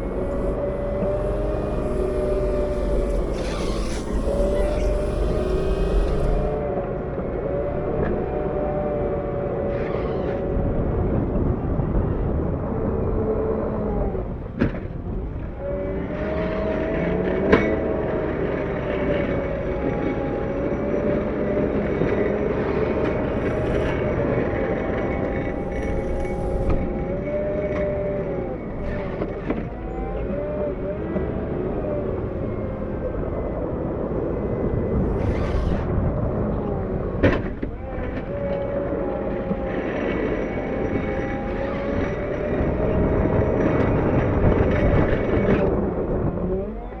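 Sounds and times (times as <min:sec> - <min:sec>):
diesel engine under load: 0:00.0 - 0:47.0.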